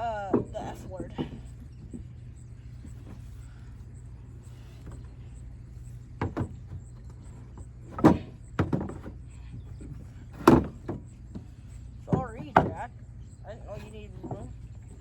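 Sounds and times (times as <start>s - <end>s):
parts knocking and clunking: 0.0s - 15.0s
steady low hum: 0.0s - 15.0s.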